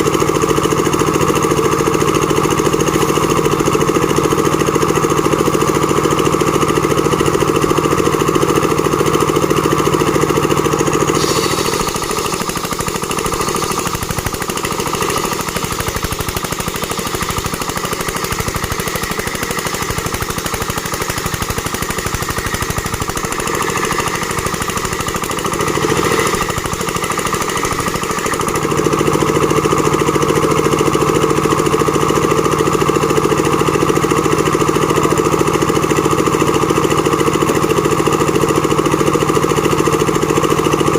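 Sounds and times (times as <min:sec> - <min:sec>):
plank-sawing machine running: 0:00.0 - 0:40.9.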